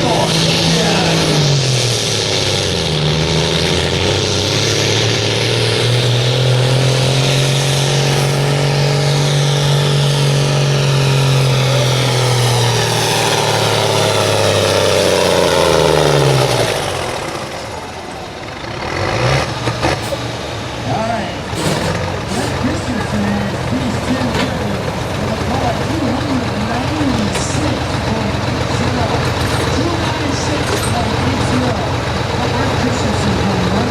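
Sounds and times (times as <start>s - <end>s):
tractor engine running at full power: 0.0s - 33.9s.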